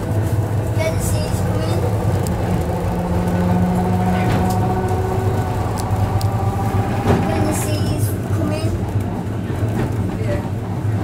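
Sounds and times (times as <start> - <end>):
tram motor hum: 0.0 - 11.0.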